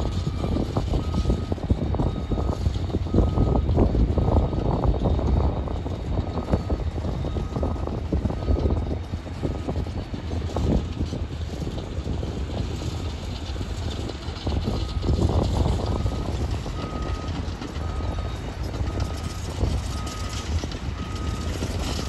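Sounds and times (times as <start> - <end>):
freight train wheels rumbling: 0.0 - 22.0
wind buffeting microphone: 0.0 - 22.0.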